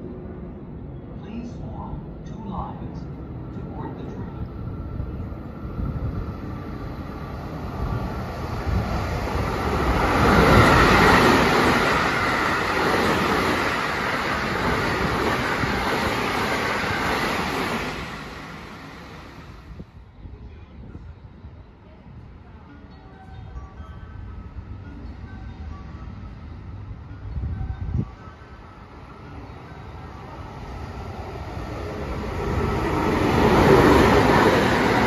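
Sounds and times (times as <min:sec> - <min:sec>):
train rushing past: 0:00.0 - 0:21.5, 0:24.1 - 0:35.0.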